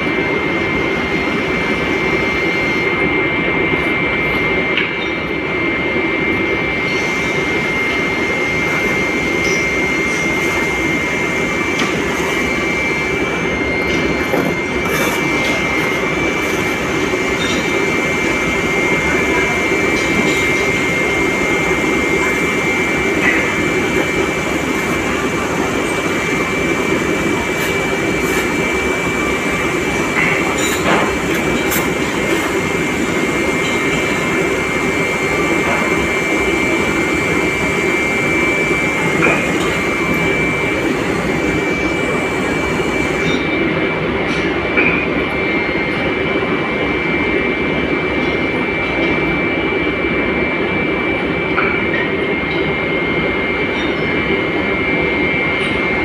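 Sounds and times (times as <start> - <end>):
foundry machinery drone: 0.0 - 56.0.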